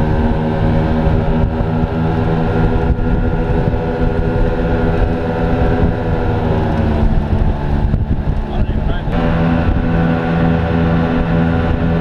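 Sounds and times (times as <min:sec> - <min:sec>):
outboard motors droning: 0:00.0 - 0:12.0
rush of wake and water: 0:00.0 - 0:12.0.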